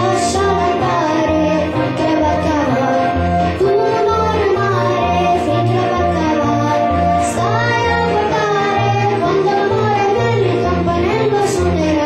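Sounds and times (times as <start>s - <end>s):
girl singing into a microphone: 0.0s - 12.0s
music with repeating bass line: 0.0s - 12.0s.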